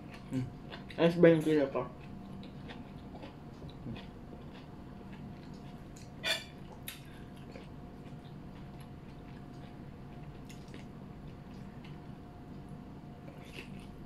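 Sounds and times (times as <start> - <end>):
chewing and wet mouth noises: 0.0 - 14.0
faint steady hum: 0.0 - 14.0.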